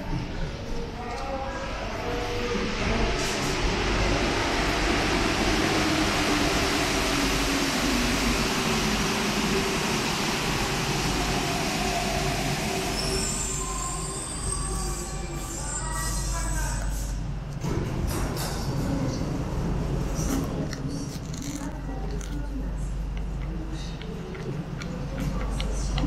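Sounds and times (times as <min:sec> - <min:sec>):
train running into platform: 0:00.0 - 0:21.1.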